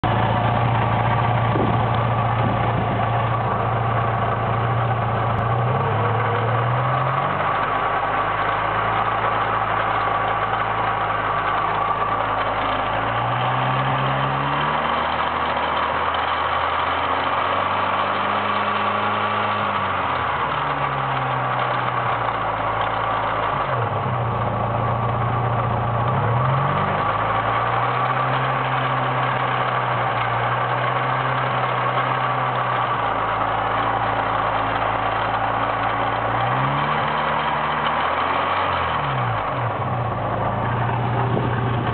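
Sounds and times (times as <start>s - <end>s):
car engine clattering: 0.0s - 41.9s.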